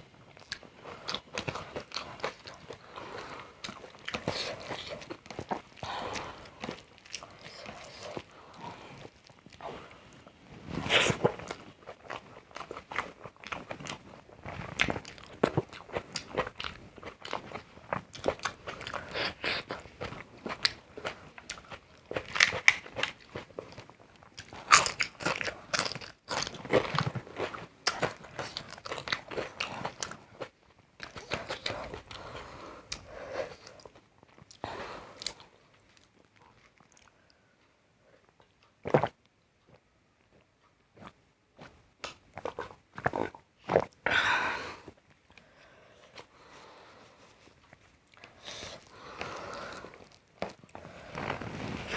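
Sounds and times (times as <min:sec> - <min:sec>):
person chewing crunchy food: 0:00.3 - 0:37.4, 0:38.3 - 0:44.1, 0:45.3 - 0:51.9.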